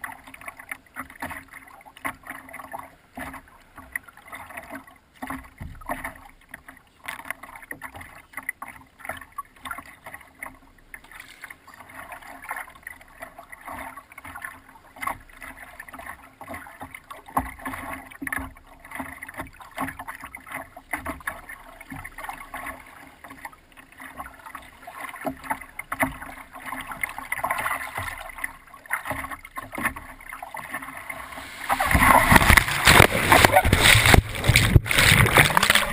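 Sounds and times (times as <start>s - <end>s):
water splashing against paddleboard: 0.0s - 35.9s.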